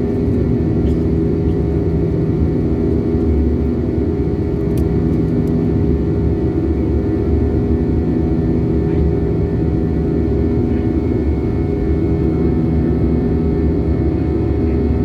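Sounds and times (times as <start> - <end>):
airliner engine drone in cabin: 0.0 - 15.0.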